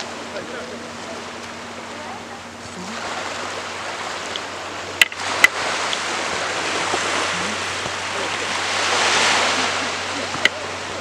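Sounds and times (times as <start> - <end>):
sea waves: 0.0 - 11.0
wind on microphone: 0.0 - 11.0.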